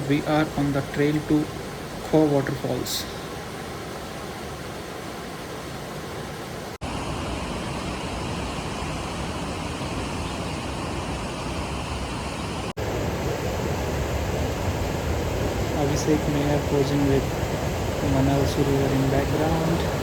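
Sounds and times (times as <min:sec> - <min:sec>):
rushing mountain river: 0:00.0 - 0:20.0.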